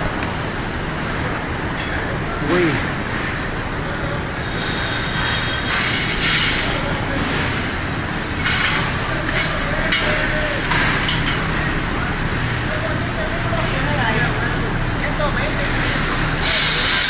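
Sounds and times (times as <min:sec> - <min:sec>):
metal workshop din: 0:00.1 - 0:17.0.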